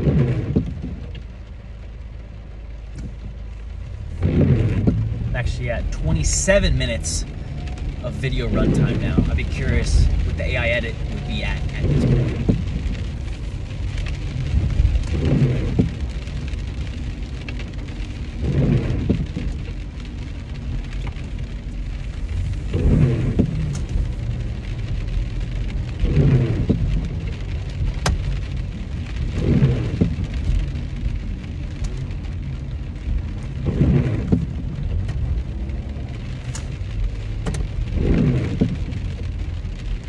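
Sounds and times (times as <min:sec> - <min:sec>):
rain on car: 0:00.0 - 0:40.0
road and engine rumble: 0:00.0 - 0:40.0.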